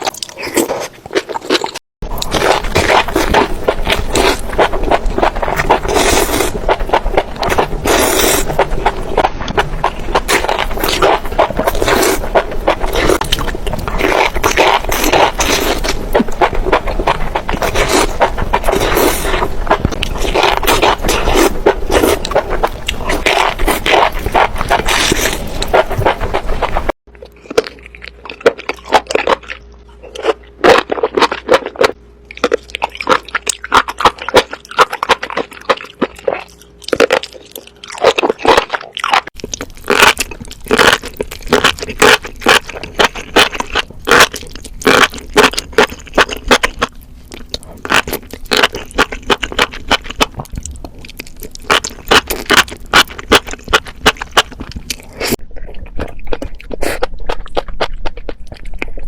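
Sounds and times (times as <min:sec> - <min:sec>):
chewing crunchy food: 0:00.0 - 0:59.0.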